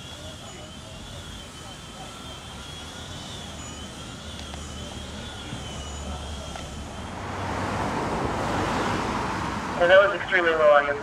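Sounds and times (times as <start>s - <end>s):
distant engine rumble: 0.0s - 11.0s
faint high wavering whine: 0.0s - 11.0s.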